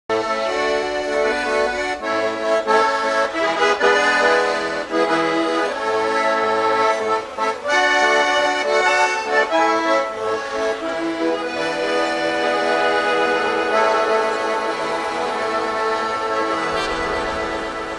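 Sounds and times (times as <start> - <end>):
accordion tune over held chords: 0.1 - 17.9.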